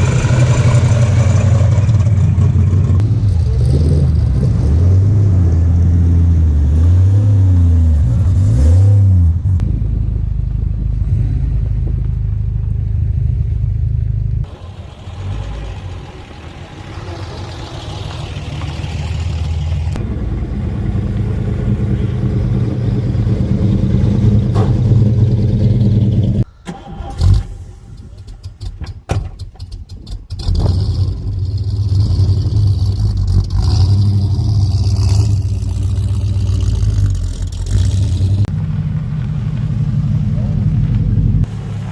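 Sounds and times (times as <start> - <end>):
car engines revving: 0.0 - 28.7, 30.3 - 41.9.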